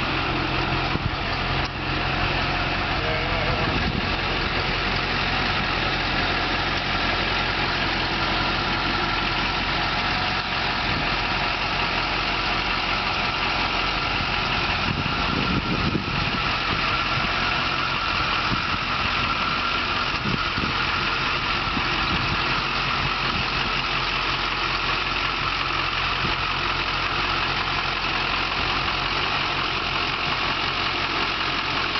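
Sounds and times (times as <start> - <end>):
diesel truck engine idling: 0.0 - 31.9.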